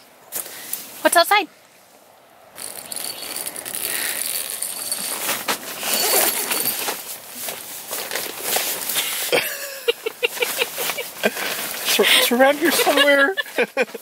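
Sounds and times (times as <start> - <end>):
tent fabric rustling: 2.7 - 14.0.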